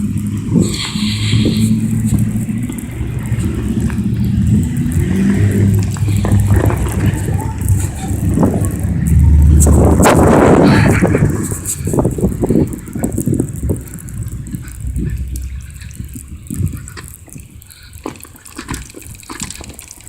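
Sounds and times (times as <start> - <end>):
low rumble of passing traffic: 0.0 - 20.0.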